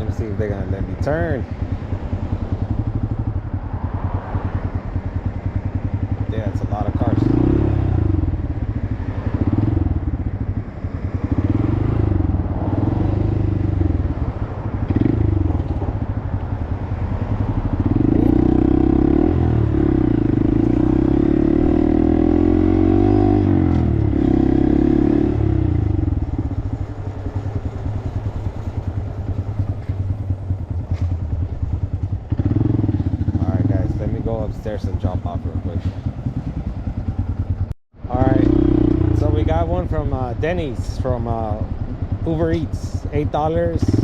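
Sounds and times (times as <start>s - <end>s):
motorcycle engine riding slowly: 0.0s - 44.0s.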